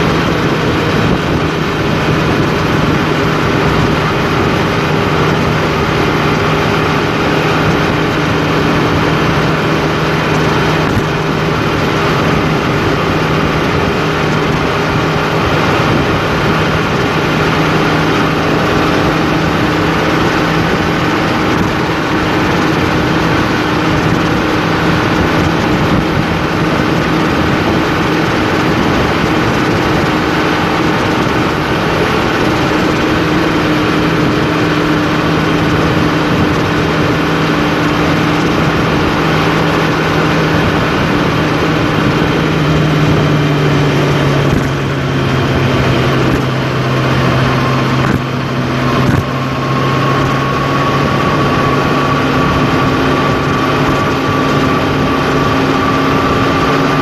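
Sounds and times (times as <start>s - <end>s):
road noise inside vehicle: 0.0s - 57.0s
vehicle engine drone: 0.0s - 57.0s.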